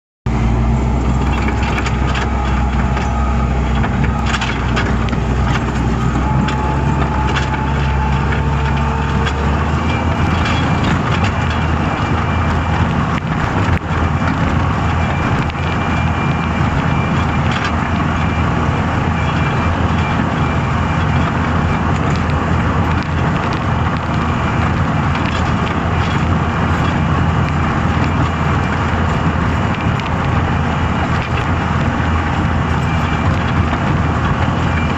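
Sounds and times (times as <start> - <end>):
loader engine revving: 0.3 - 34.9.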